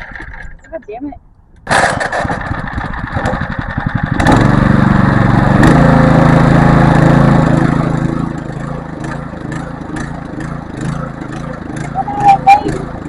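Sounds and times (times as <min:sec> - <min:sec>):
small petrol engine running: 0:01.6 - 0:13.0.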